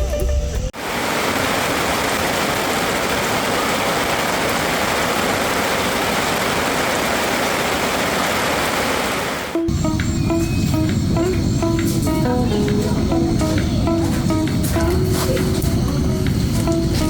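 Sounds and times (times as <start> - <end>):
steady rushing noise: 0.8 - 17.0.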